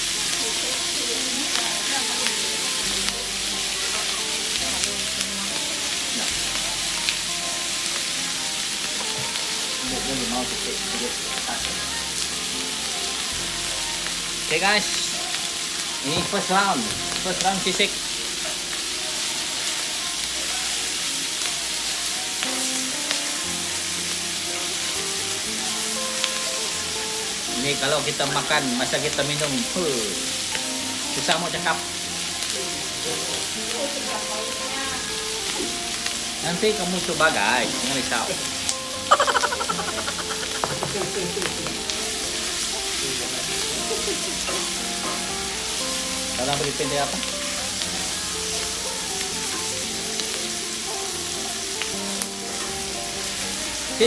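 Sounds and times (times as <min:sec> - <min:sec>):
meat sizzling on hot plate: 0:00.0 - 0:54.0.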